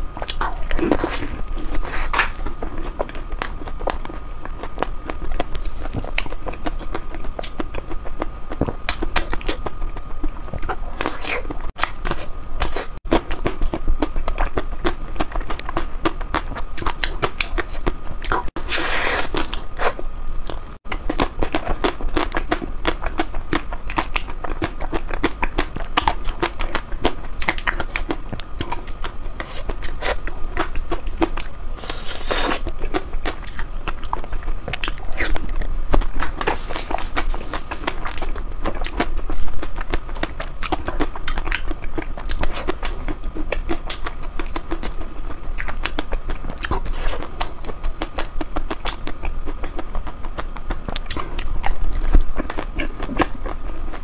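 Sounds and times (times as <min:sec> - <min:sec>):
wet crunching chewing sounds: 0:00.0 - 0:54.0.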